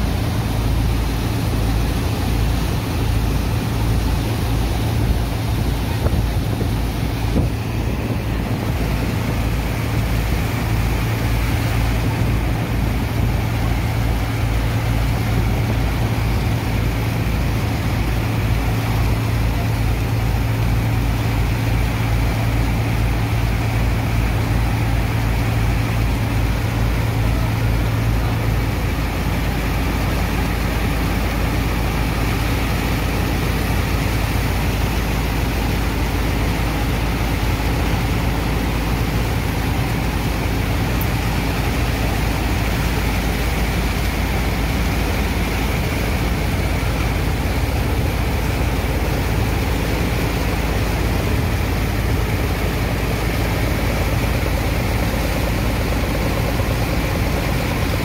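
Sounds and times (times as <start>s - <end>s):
pump engine throbbing: 0.0s - 58.0s
water jets hissing into sand: 0.0s - 58.0s.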